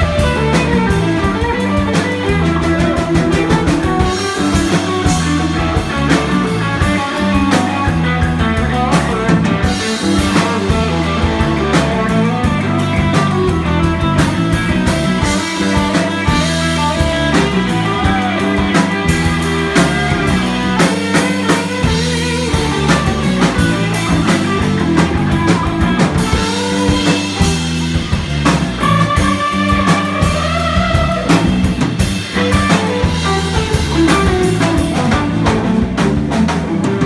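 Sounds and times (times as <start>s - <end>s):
bass guitar: 0.0s - 37.0s
drum kit: 0.0s - 37.0s
electric guitar lines: 0.0s - 37.0s.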